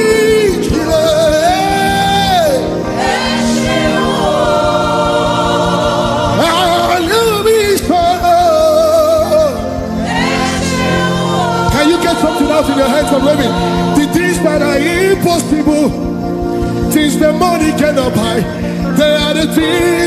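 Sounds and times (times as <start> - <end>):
backing music: 0.0 - 20.0
person singing gospel: 0.0 - 20.0.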